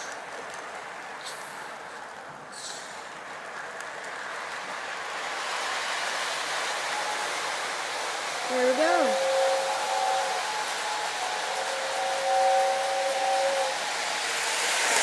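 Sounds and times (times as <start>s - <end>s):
model train wheels rattling on rails: 0.0s - 15.0s.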